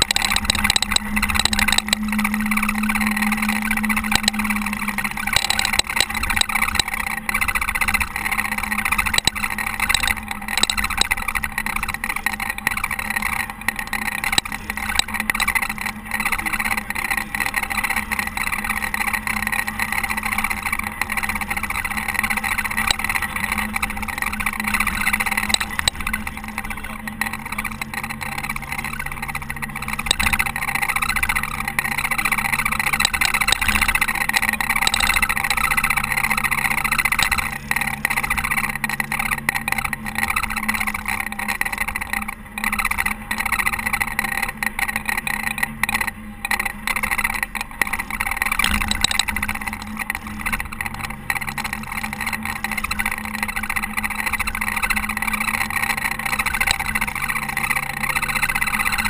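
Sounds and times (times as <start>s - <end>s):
diesel engine under load: 0.0s - 59.0s
low steady hum: 0.0s - 59.0s.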